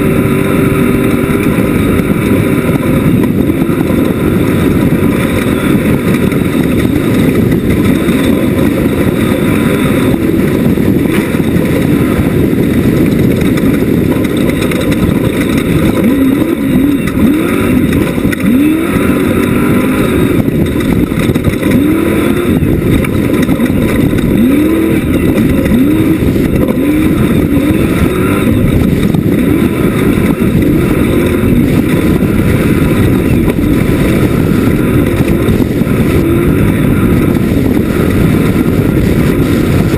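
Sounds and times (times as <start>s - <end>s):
race buggy engine revving: 0.0s - 39.9s.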